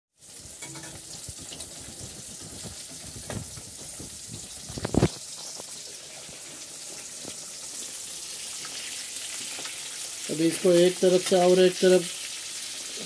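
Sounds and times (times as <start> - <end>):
fish sizzling in hot oil: 0.1 - 13.0.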